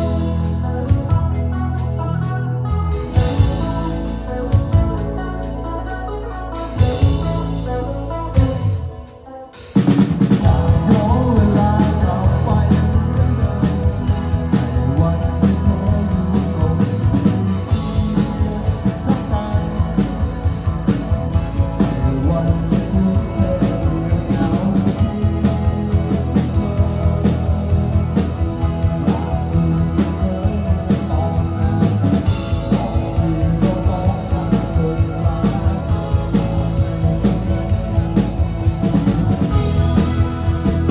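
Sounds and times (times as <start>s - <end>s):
driving drums: 0.0s - 40.9s
rock band playing: 0.0s - 40.9s.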